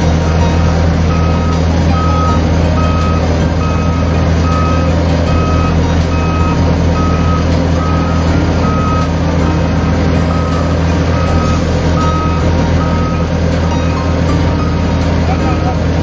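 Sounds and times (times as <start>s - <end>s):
diesel engine hum: 0.0s - 16.0s
reversing alarm beeping: 0.0s - 16.0s.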